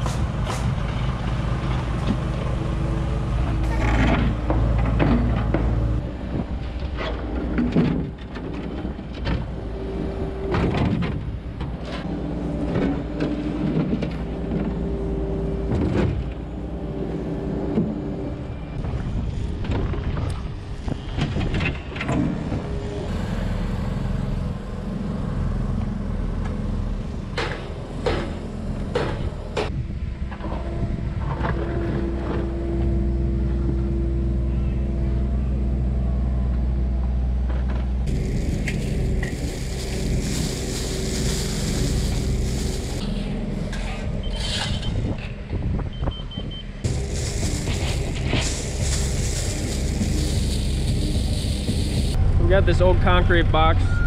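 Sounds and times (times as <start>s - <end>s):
deep drone of digger engines: 0.0s - 54.0s
loader engine running: 0.0s - 54.0s
hydraulic whine: 3.4s - 52.4s.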